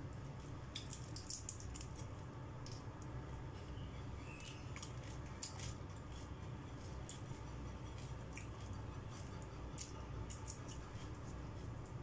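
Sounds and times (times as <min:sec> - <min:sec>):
chewing and wet mouth noises: 0:00.4 - 0:03.1, 0:04.2 - 0:12.0.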